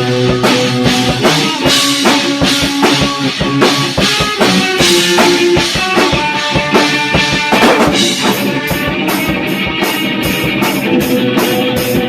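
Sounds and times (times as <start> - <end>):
rock band playing: 0.0 - 12.0
steady cymbal beat: 0.0 - 12.0.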